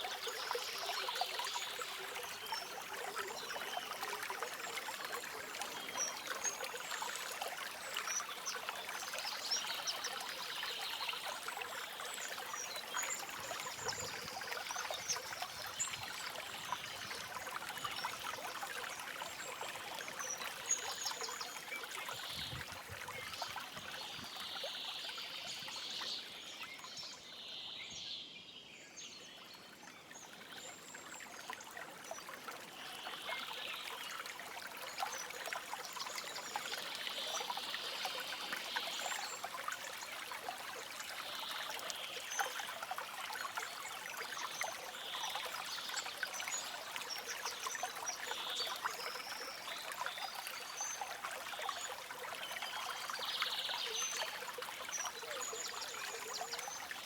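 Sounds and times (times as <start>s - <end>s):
stream babbling: 0.0s - 27.5s, 29.4s - 57.0s.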